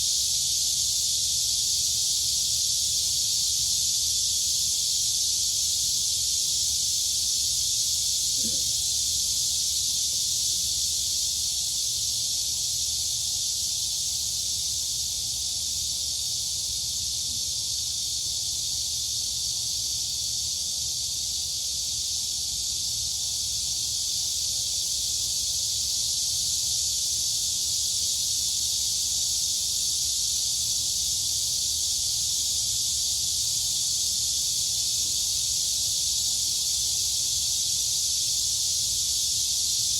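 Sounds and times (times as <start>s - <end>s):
crickets and cicadas shrilling: 0.0s - 39.9s.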